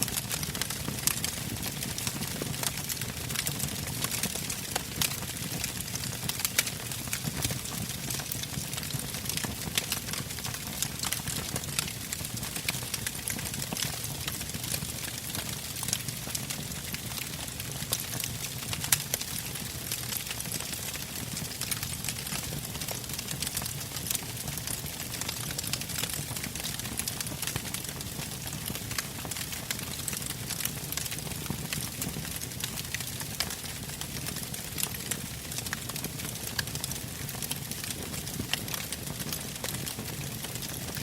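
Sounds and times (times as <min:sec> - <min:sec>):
campfire crackling and popping: 0:00.0 - 0:41.0
low rumble of flames: 0:00.1 - 0:41.0.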